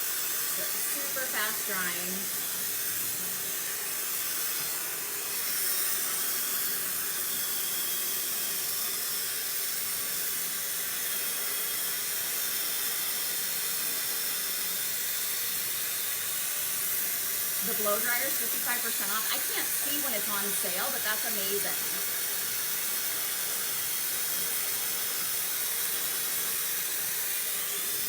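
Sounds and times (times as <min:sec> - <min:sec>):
blow dryer running: 0:00.0 - 0:28.0.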